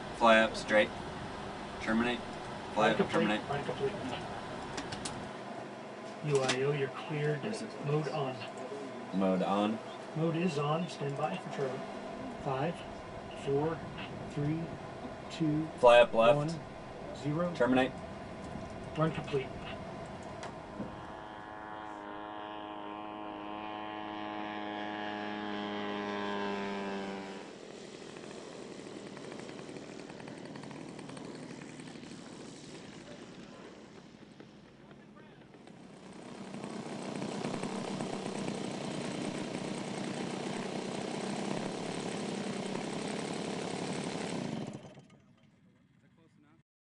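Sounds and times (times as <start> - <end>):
propeller engine droning: 0.0 - 46.4.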